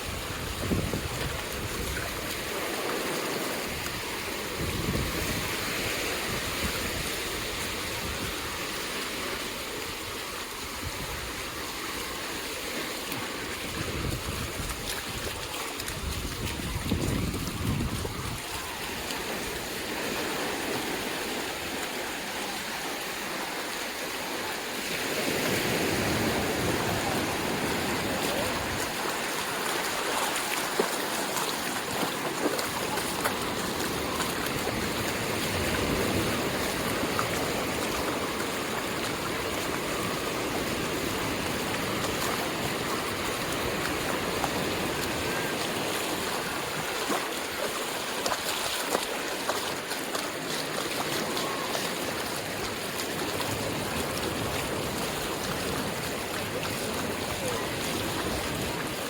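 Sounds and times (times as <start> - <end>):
ocean waves washing on beach: 0.0 - 59.0.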